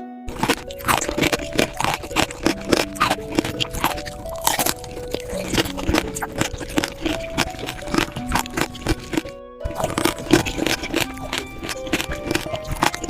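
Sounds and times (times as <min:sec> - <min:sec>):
soft background music: 0:00.0 - 0:13.0
crunching candied fruit: 0:00.3 - 0:13.0.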